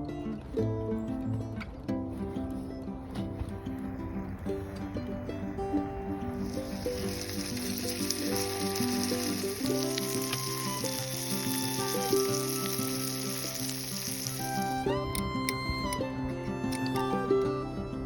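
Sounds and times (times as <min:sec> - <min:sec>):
music of held notes: 0:00.0 - 0:18.0
sizzling hiss with crackles: 0:02.4 - 0:18.0.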